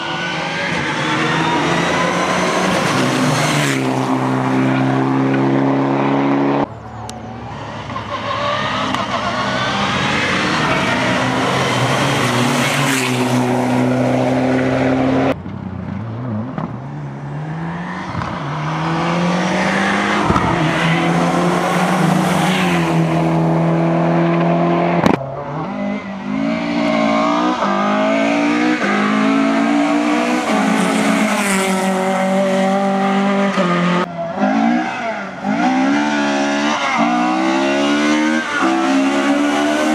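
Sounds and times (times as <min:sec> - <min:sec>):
rally cars revving past: 0:00.3 - 0:06.7, 0:07.5 - 0:39.9.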